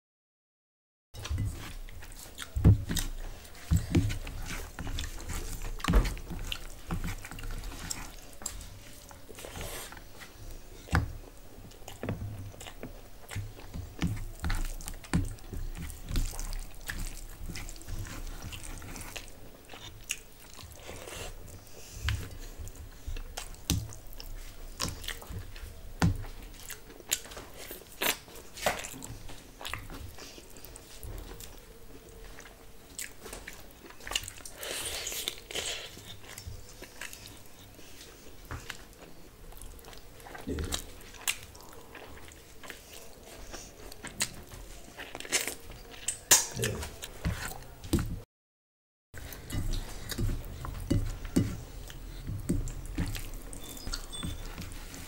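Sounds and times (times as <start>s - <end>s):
wet chewing with crunches: 1.2s - 48.2s, 49.2s - 55.0s.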